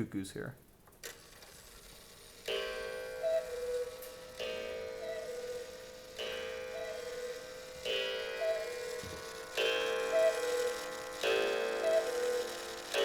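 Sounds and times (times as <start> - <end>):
clock ringing strike: 2.5 - 13.0
cuckoo clock calls: 2.5 - 13.0.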